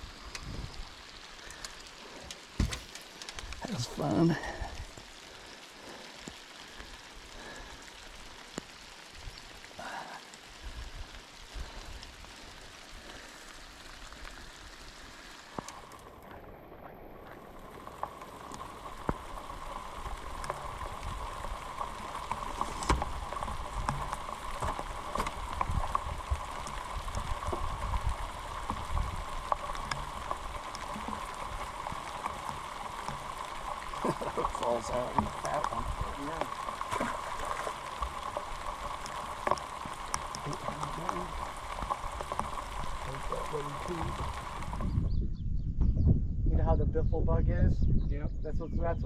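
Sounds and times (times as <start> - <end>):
light rain pattering: 0.0 - 45.0.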